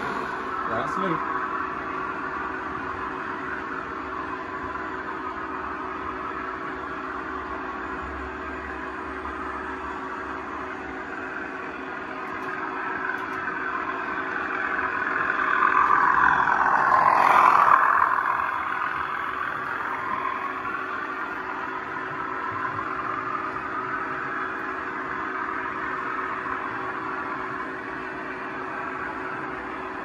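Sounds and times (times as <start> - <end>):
model locomotive hum: 0.0 - 30.0.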